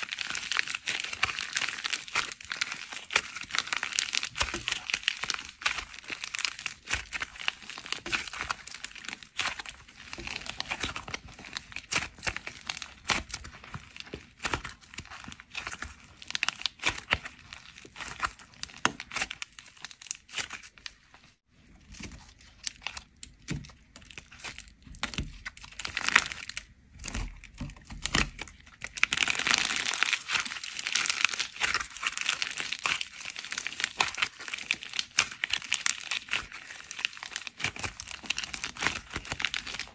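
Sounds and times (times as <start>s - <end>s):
clay chips crackling in hands: 0.0s - 21.0s, 28.2s - 39.9s.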